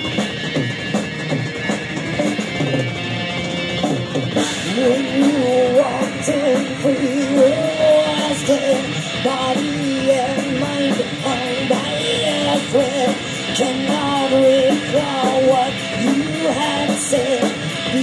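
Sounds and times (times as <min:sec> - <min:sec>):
heavy metal band playing: 0:00.0 - 0:18.0
wavering lead guitar melody: 0:00.0 - 0:18.0.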